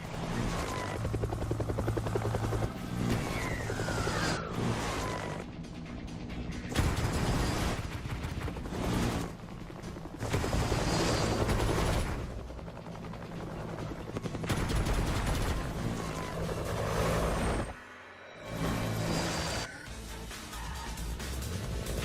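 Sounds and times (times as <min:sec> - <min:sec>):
helicopter rotor chop: 0:00.0 - 0:17.8.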